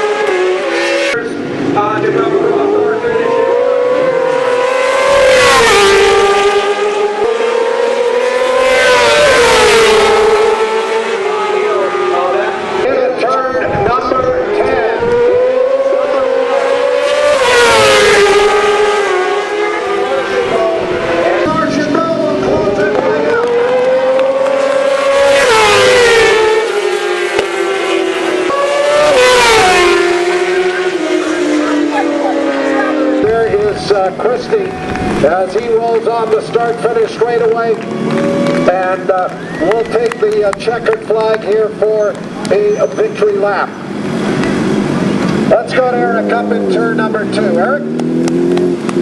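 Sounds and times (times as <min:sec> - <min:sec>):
motorcycle engine revving high: 0:00.0 - 0:49.0.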